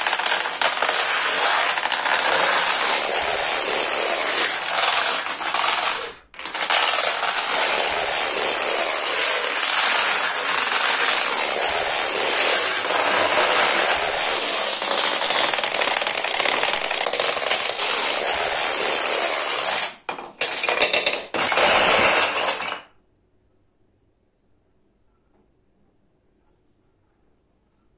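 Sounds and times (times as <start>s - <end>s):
plastic dominoes clattering: 0.0s - 22.9s.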